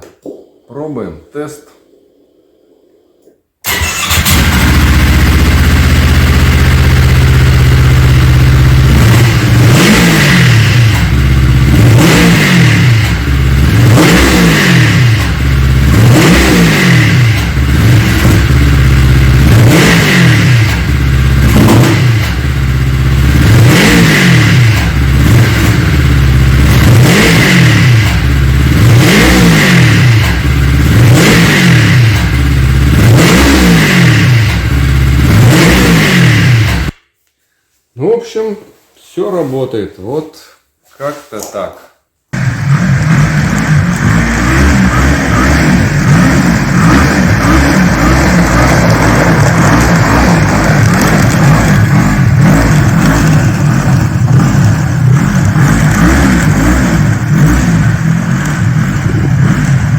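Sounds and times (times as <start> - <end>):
snowmobile engine revving: 3.6 - 36.9, 42.4 - 59.9.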